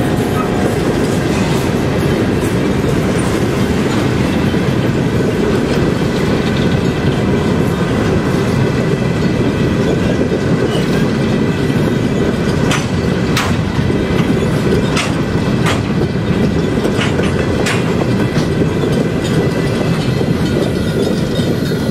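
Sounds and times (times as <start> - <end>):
steel wheels rumbling on rail: 0.0 - 21.9
wheels clacking over rail joints: 0.0 - 21.9.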